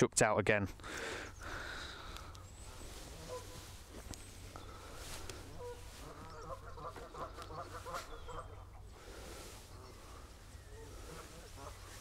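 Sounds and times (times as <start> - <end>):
waterfowl clucking calls: 1.0 - 12.0.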